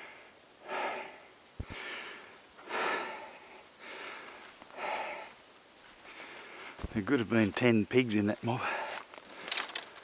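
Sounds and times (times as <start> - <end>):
man breathing hard: 0.0 - 6.9, 8.6 - 10.0.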